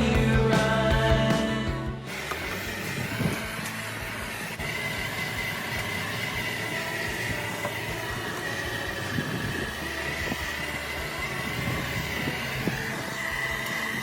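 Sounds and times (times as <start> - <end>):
machinery whining and humming: 0.0 - 14.0.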